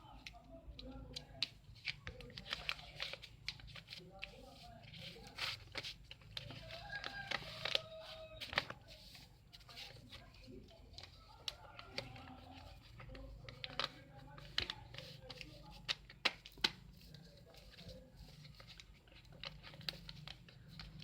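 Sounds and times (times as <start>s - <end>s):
paper folding and crackling: 0.0s - 21.0s.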